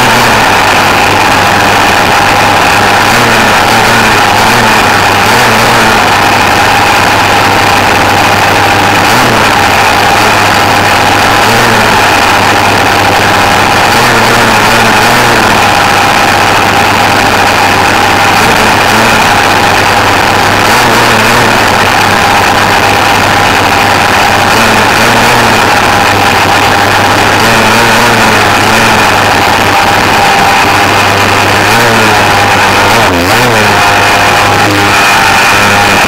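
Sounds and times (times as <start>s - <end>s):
toy car motor whining: 0.0s - 36.0s.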